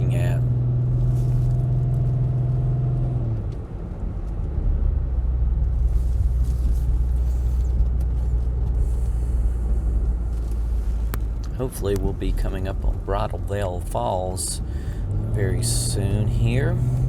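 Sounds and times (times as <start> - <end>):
car engine hum inside cabin: 0.0 - 17.0
low road rumble: 0.0 - 17.0.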